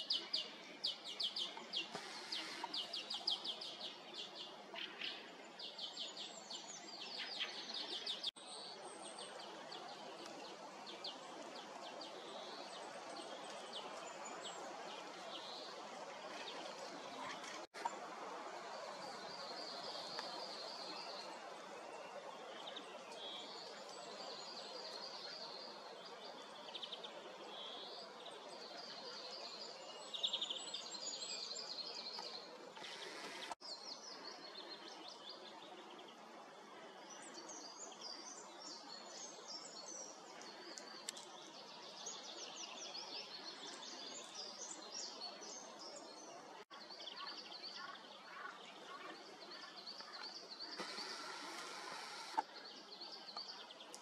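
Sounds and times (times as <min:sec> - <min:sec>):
faint background hiss: 0:00.0 - 0:54.0
songbirds singing: 0:00.0 - 0:54.0.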